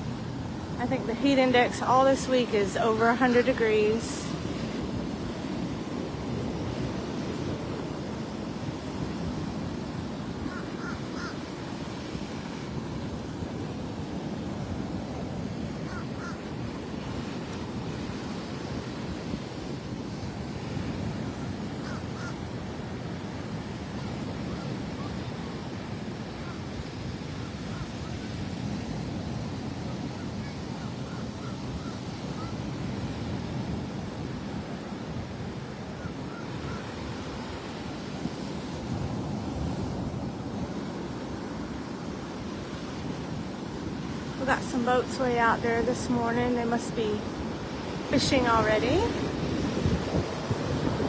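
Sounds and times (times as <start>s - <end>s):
surf breaking on shore: 0.0s - 21.8s, 22.4s - 51.0s.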